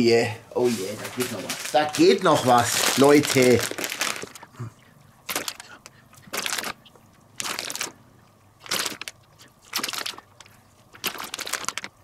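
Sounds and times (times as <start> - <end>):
plastic bag crinkling: 0.7 - 4.5, 5.3 - 8.0, 8.6 - 12.0.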